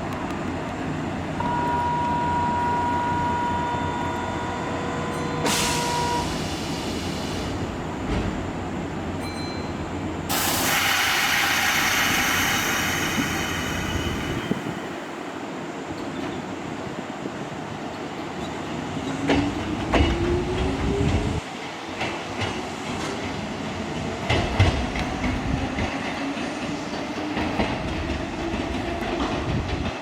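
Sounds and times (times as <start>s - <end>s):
electric train whine: 0.0s - 30.0s.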